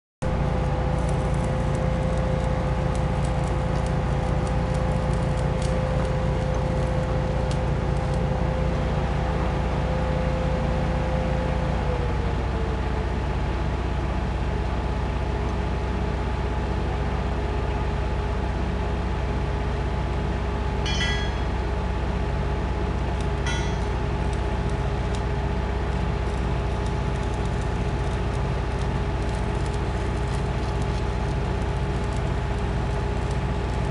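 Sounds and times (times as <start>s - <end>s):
large machine humming and whining: 0.2s - 33.9s.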